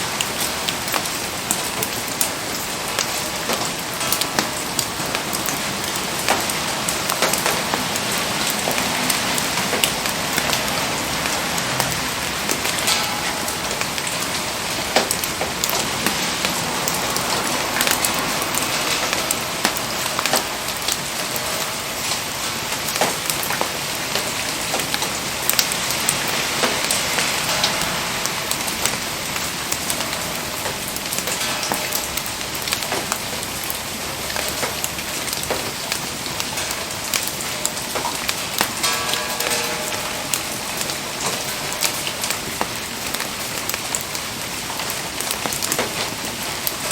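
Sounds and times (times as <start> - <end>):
rain pattering: 0.0 - 46.9.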